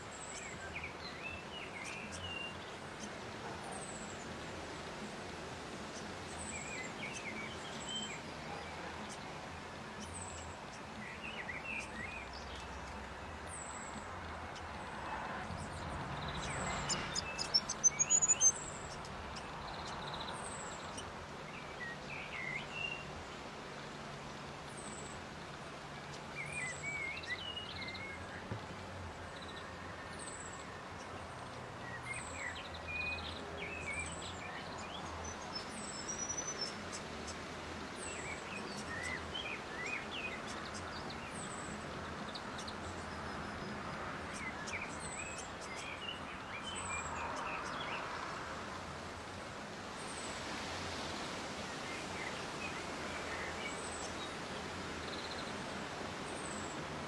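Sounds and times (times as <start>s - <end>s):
steady background hiss: 0.0s - 15.8s, 16.4s - 57.0s.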